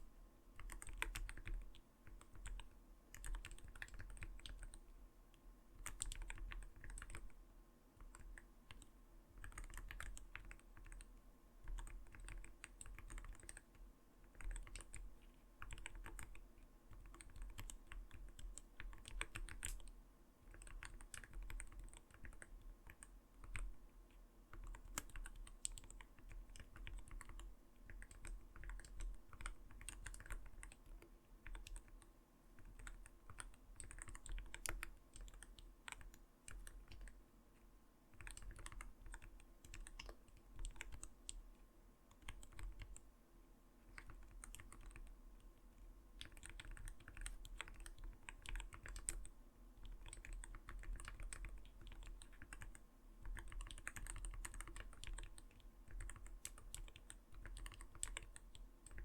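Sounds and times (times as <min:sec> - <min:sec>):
mechanical keyboard typing: 0:00.6 - 0:04.8, 0:05.8 - 0:07.3, 0:08.0 - 0:11.1, 0:11.7 - 0:19.9, 0:20.5 - 0:23.7, 0:24.5 - 0:37.2, 0:38.1 - 0:41.4, 0:42.1 - 0:43.0, 0:44.0 - 0:45.1, 0:46.2 - 0:59.0.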